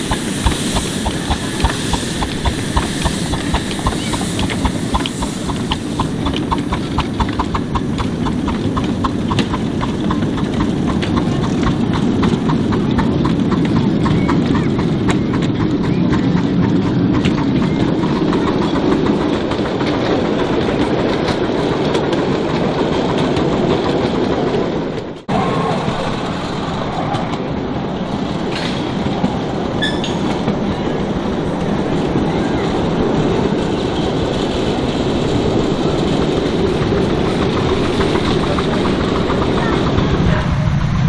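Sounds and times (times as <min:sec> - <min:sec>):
train wheels clacking over rail joints: 0:00.0 - 0:41.0.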